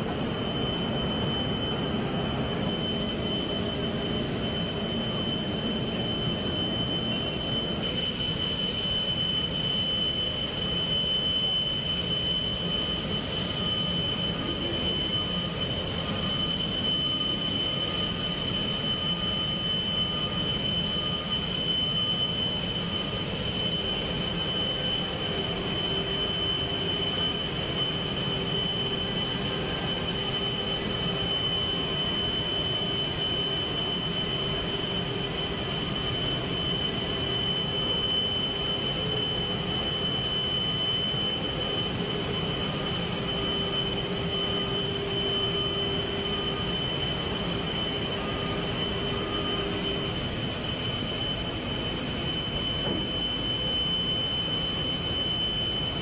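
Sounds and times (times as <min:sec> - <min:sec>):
machinery drone with high whine: 0:00.0 - 0:56.0.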